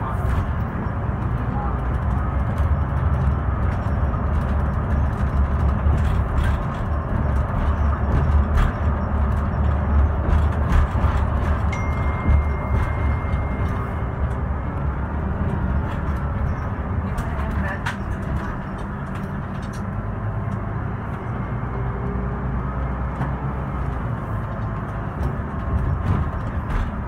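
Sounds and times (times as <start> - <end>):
bus diesel engine rumble: 0.0 - 27.0.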